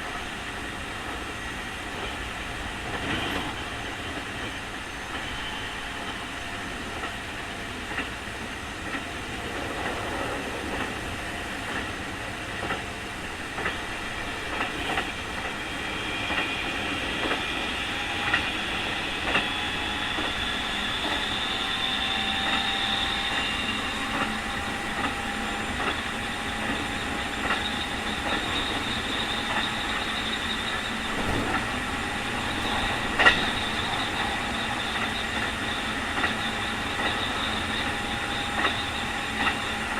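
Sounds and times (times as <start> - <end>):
electric train running: 0.0 - 39.9
rail-joint clicks: 1.9 - 39.9.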